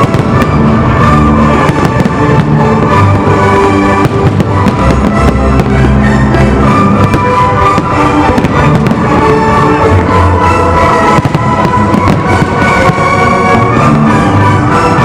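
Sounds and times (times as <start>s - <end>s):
fireworks bursting: 0.0s - 15.0s
loud music: 0.0s - 15.0s.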